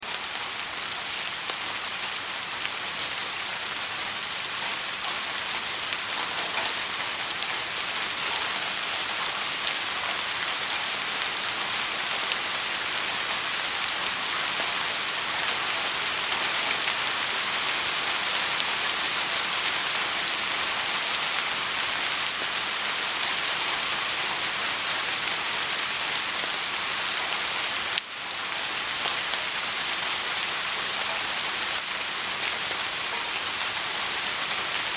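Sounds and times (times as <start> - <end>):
soft rain hissing: 0.0 - 34.9.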